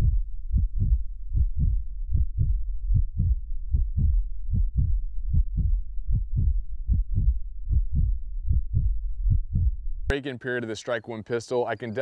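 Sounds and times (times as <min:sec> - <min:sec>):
deep heartbeat-like thumps: 0:00.0 - 0:10.1.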